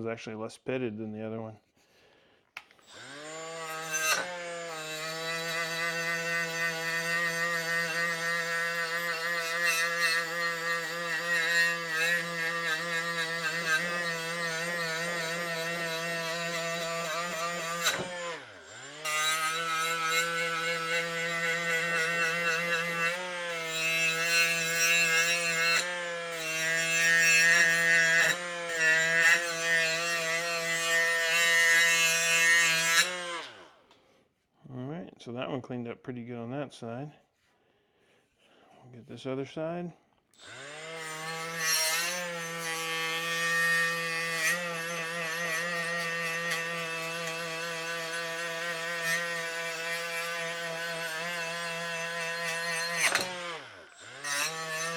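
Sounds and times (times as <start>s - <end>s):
power tool grinding metal: 2.6s - 33.8s, 40.4s - 54.9s.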